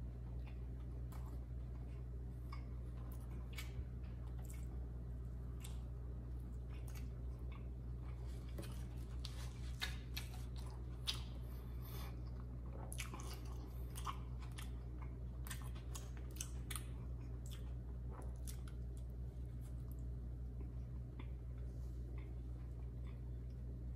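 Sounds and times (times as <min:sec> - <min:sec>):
wet chewing clicks and smacks: 0:00.2 - 0:04.8, 0:05.5 - 0:11.4, 0:12.3 - 0:23.6.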